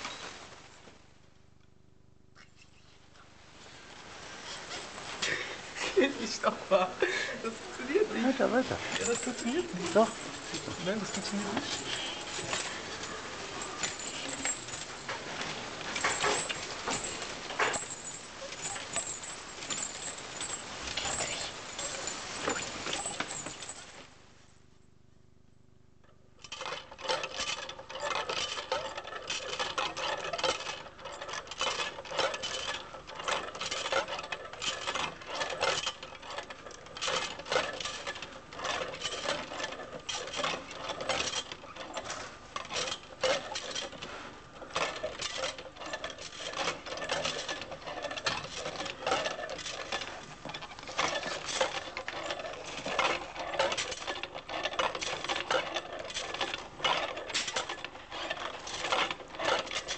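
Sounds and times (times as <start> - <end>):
metallic clicks and rattles: 7.3 - 24.0, 26.0 - 59.9.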